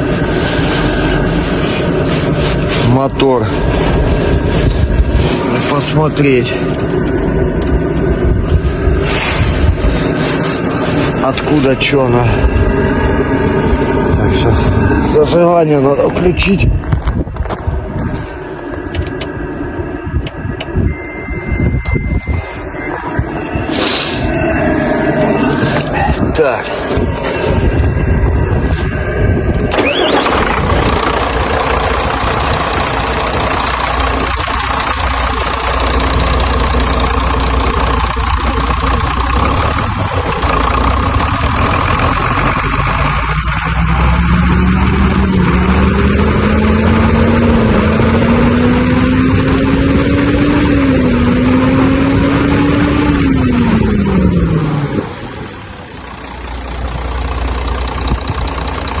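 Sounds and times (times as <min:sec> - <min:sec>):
rising stepped tone: 0:00.0 - 0:54.6
diesel engine cranking and starting: 0:00.0 - 0:59.0
diesel engine idling: 0:00.0 - 0:59.0.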